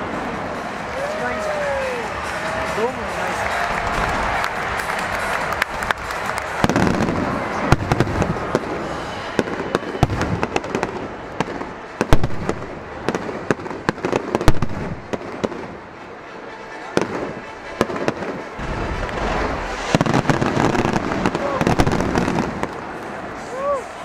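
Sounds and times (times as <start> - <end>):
fireworks bangs and crackles: 0.0 - 16.1, 16.9 - 23.8.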